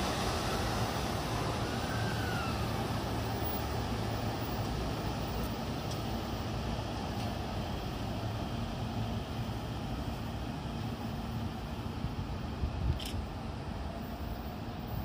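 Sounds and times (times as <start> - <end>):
electric train running noise: 0.0 - 15.0.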